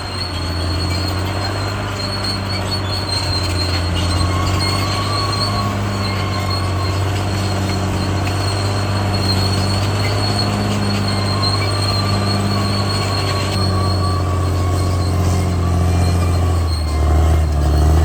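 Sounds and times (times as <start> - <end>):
diesel engine drone: 0.0 - 18.0
steel tracks squealing: 0.0 - 18.0.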